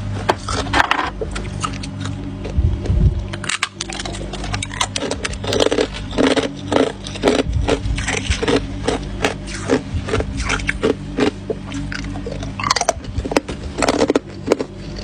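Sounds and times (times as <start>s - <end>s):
ice crunching while chewed: 0.4s - 0.7s, 1.3s - 2.6s, 3.3s - 15.0s.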